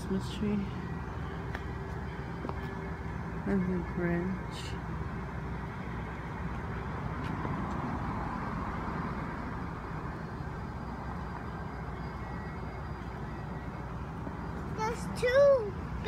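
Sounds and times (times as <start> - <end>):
car passing: 0.0 - 16.0.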